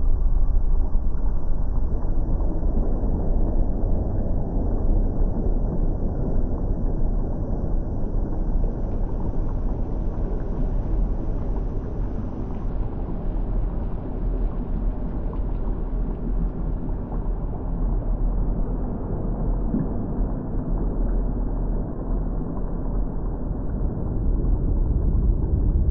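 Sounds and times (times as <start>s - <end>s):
deep rumble: 0.0s - 25.9s
lava bubbling: 0.2s - 25.9s.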